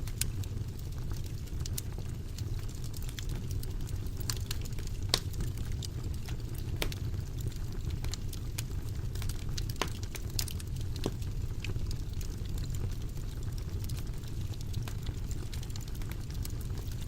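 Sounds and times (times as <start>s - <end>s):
fire crackling and rumbling: 0.0s - 17.0s.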